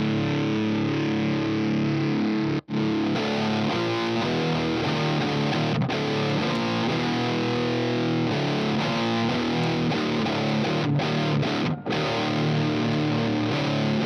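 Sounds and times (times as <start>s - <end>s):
heavily distorted electric guitar: 0.0s - 14.0s.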